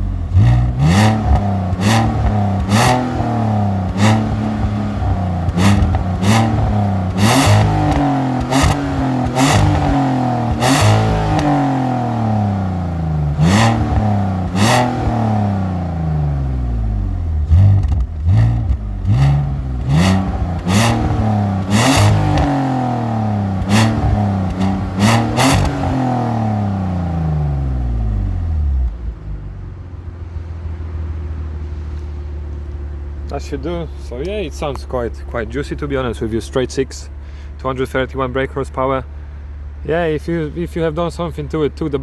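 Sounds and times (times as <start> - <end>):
car engine idling: 0.0 - 42.0
car engine revving: 0.0 - 42.0.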